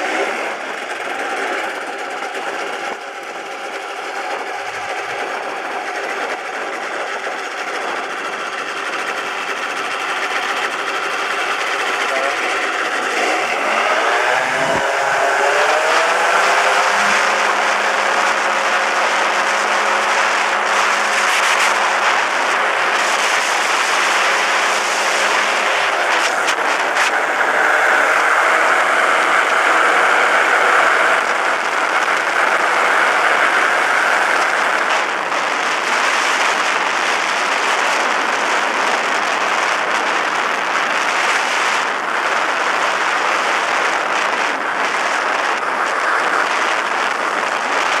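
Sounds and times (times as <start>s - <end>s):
rush of air: 0.0s - 48.0s
small aircraft engine revving: 0.0s - 48.0s.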